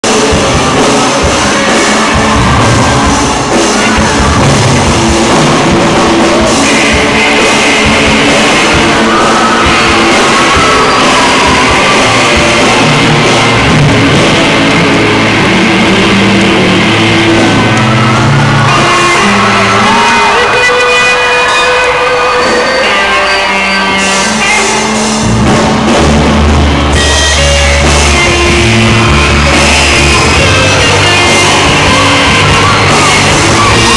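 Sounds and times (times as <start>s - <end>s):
drum kit: 0.0s - 33.9s
electric guitars through amplifiers: 0.0s - 33.9s.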